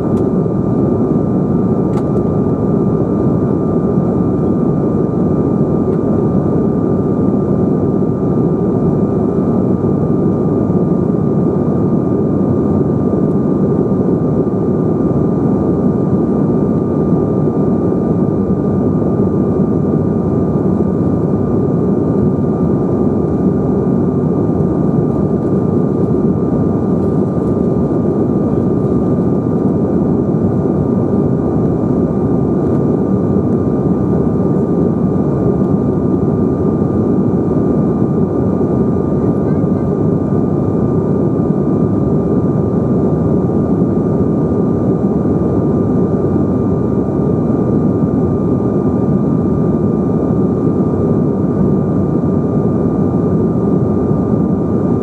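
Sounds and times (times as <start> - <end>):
aircraft cabin engine rush: 0.0 - 55.0.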